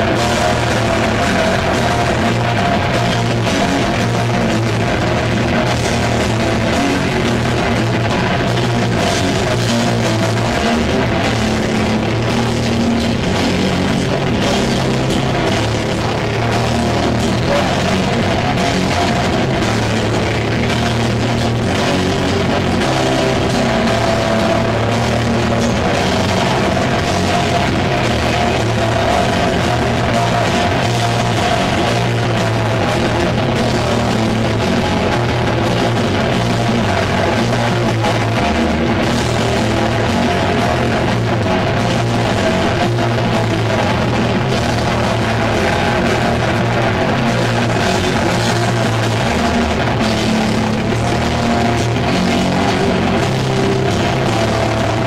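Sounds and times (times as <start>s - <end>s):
bass guitar: 0.0s - 55.0s
distorted electric guitar: 0.0s - 55.0s
drum kit: 0.0s - 55.0s.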